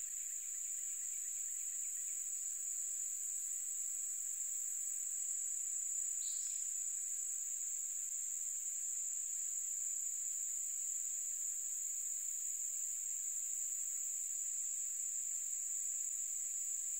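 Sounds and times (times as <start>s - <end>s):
crickets trilling chorus: 0.0s - 16.9s
pulsing insect chirp: 0.0s - 16.9s
short insect chirp: 0.0s - 16.9s.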